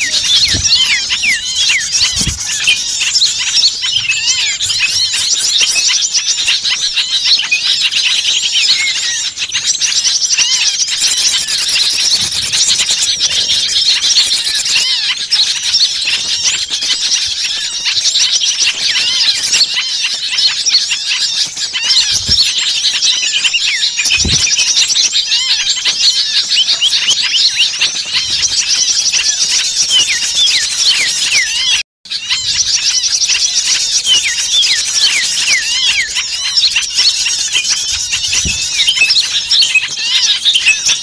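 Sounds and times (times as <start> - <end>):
flock of songbirds chirping: 0.0 - 41.0.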